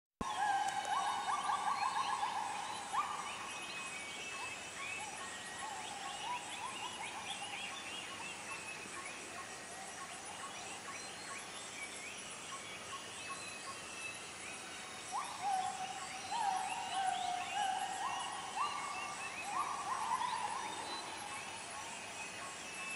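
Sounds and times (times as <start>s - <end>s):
faint insect hum: 0.2s - 22.9s.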